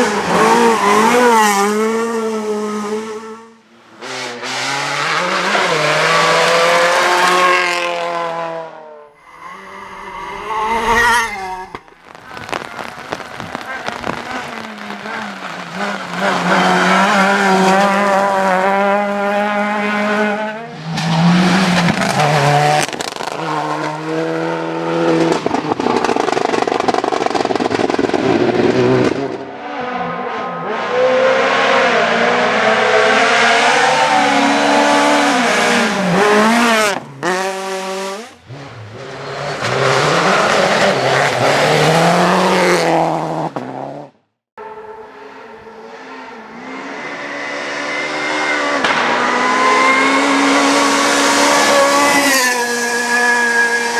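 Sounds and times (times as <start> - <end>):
rally car engines revving: 0.0 - 53.9.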